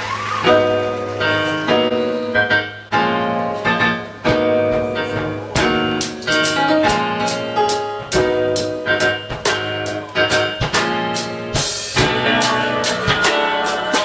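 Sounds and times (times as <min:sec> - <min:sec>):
keyboard playing chords: 0:00.0 - 0:14.0.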